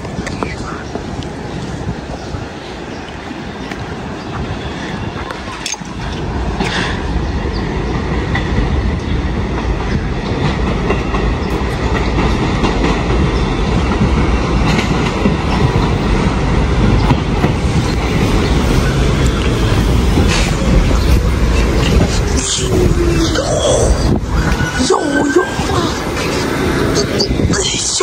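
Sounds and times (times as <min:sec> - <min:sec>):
subway train wheels rumbling: 0:00.0 - 0:28.0.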